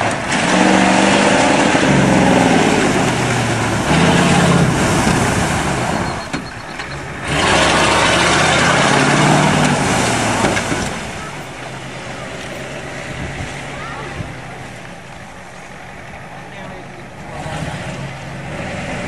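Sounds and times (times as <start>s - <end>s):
diesel engine revving hard: 0.0s - 16.2s, 17.0s - 19.0s.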